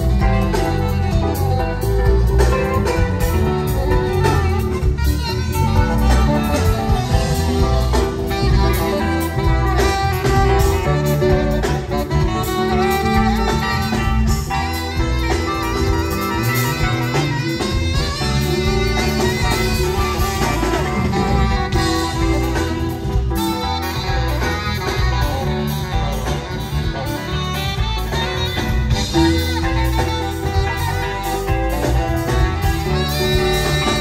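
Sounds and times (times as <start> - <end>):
live band music: 0.0 - 34.0
saxophone playing: 0.0 - 34.0.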